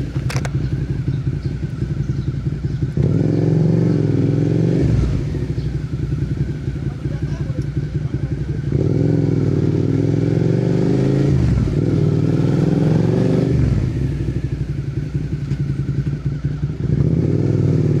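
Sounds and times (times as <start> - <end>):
choppy exhaust burble: 0.0 - 18.0
motorcycle engine accelerating: 0.0 - 18.0.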